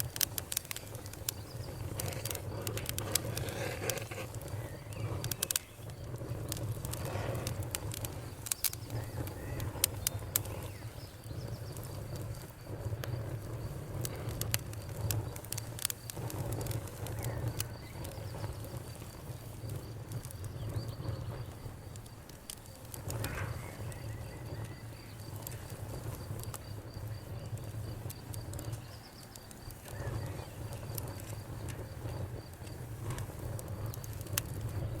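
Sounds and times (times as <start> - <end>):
low rumble of flames: 0.0 - 35.0
sharp pops and snaps: 0.0 - 35.0
wood fire crackling: 0.0 - 35.0.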